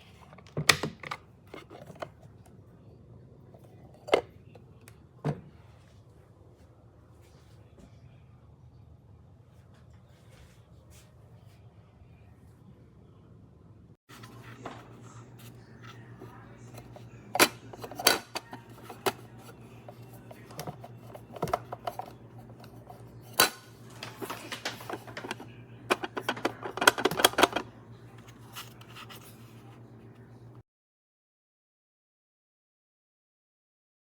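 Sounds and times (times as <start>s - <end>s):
steady low hum: 1.8s - 30.6s.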